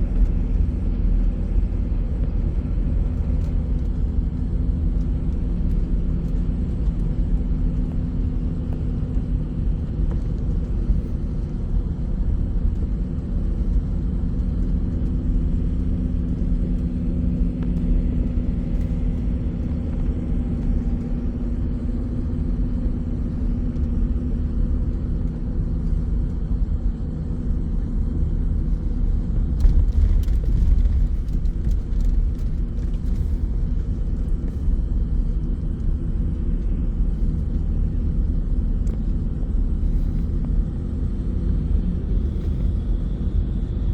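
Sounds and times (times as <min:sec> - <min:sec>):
bus engine and road noise: 0:00.0 - 0:43.9.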